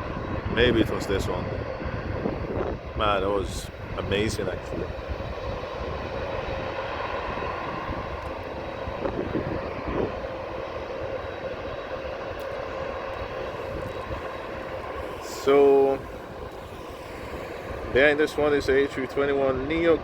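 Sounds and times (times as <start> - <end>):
faint steady whine: 0.0 - 20.0
jet engines rumbling: 0.0 - 20.0.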